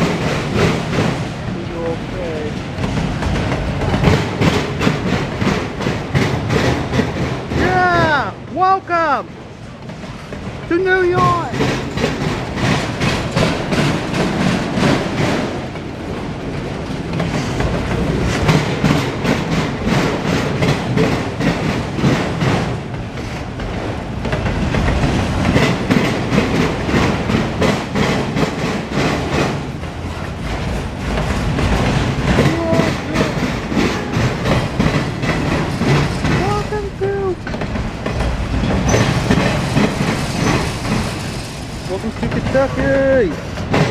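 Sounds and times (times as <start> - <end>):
train wheels clacking over rail joints: 0.0 - 43.9.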